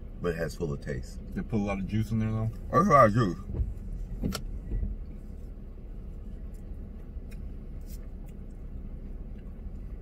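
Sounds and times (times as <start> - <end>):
car cabin hum: 0.0 - 10.0.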